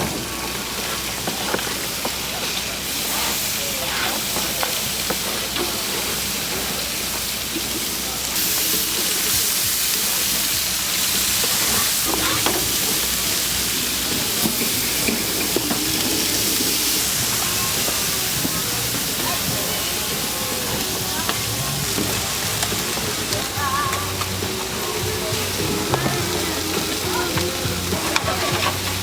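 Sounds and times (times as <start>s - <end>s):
chicken sizzling on grill: 0.0s - 29.0s.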